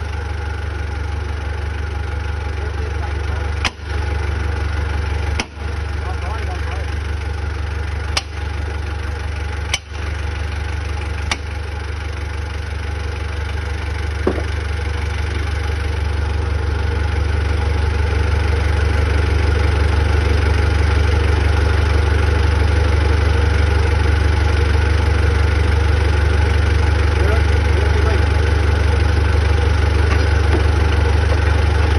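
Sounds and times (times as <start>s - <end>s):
heavy machine engine running: 0.0s - 31.9s.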